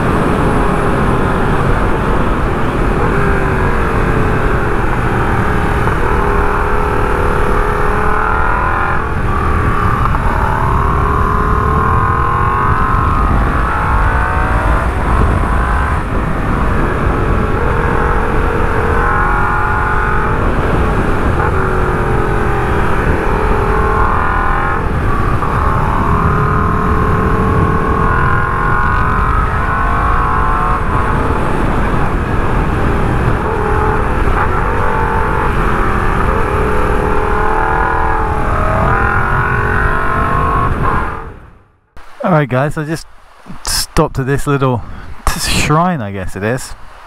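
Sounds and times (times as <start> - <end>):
motorcycle engine revving: 0.0 - 42.3.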